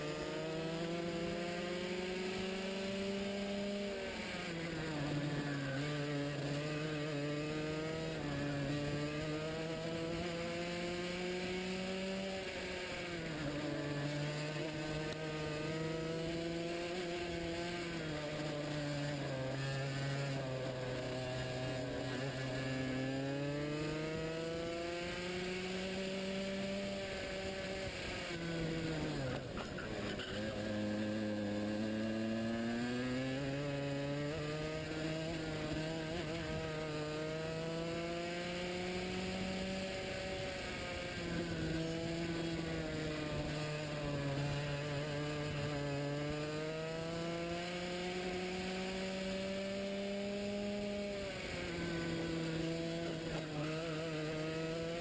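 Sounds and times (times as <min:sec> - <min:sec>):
racing kart engine: 0:00.0 - 0:55.0.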